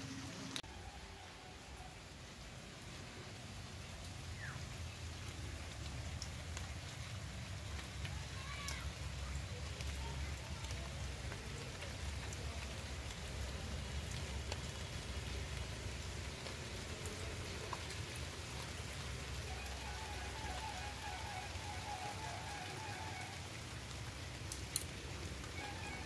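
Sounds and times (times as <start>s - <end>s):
rain on leaves and ground: 0.0s - 26.0s
sharp raindrop ticks: 3.8s - 26.0s.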